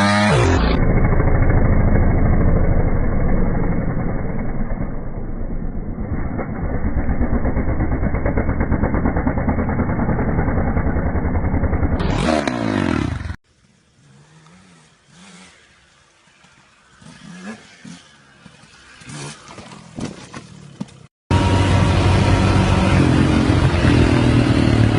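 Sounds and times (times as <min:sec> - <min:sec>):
faint engine revving: 0:00.0 - 0:24.9.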